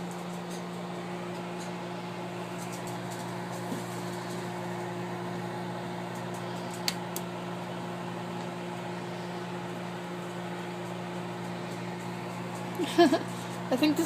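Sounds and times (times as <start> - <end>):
microwave oven humming: 0.0 - 14.0.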